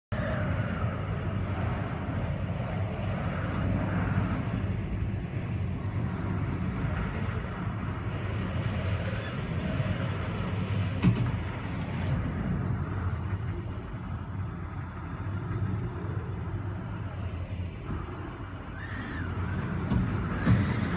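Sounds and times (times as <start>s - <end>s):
strong wind on microphone: 0.1s - 20.9s.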